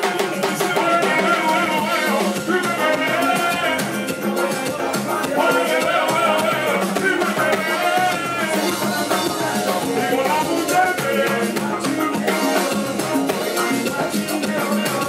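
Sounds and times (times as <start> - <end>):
congas and drum kit beat: 0.0 - 15.0
lead vocal singing: 0.0 - 15.0
reggaeton band playing: 0.0 - 15.0.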